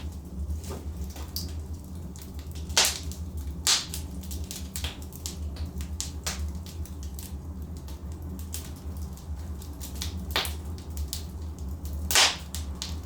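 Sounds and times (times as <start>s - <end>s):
fire pops: 0.0s - 13.0s
low rumble of flames: 0.0s - 13.0s.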